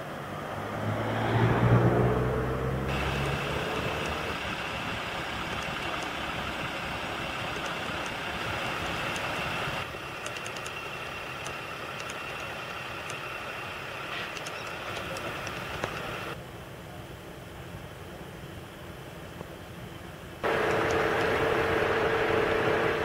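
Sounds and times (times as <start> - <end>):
vehicle engine idling: 2.6 - 23.0.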